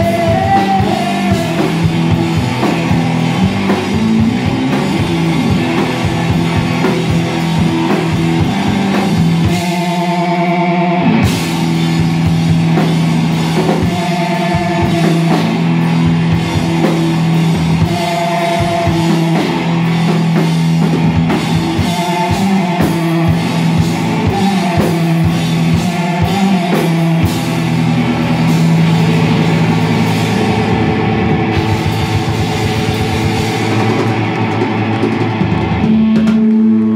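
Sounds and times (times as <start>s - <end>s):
distorted electric guitar: 0.0s - 36.9s
drum kit: 0.0s - 36.9s.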